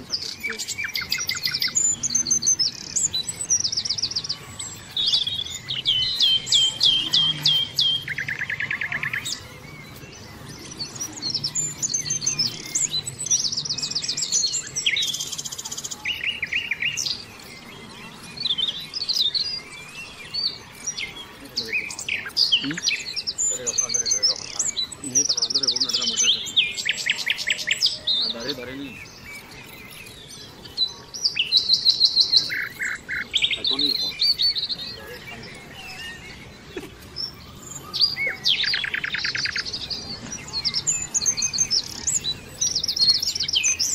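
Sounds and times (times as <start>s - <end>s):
birds chirping and singing: 0.0s - 43.9s.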